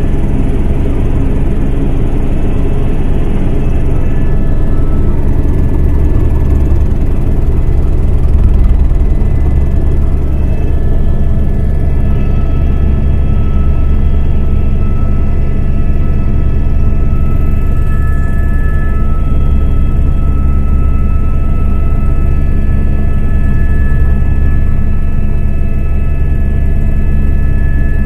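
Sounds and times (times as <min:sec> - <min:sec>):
faint high whine: 0:00.0 - 0:28.0
helicopter rotor and turbine drone: 0:00.0 - 0:28.0.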